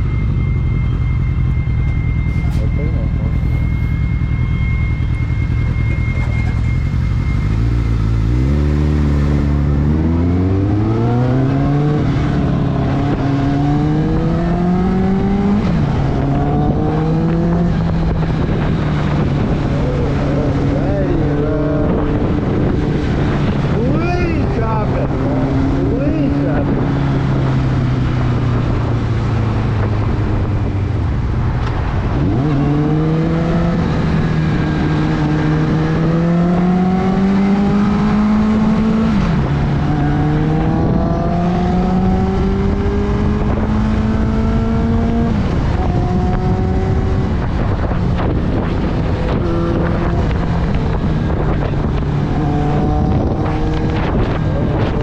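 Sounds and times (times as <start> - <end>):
motorcycle engine accelerating: 0.0 - 55.0
wind rush on microphone: 0.0 - 55.0.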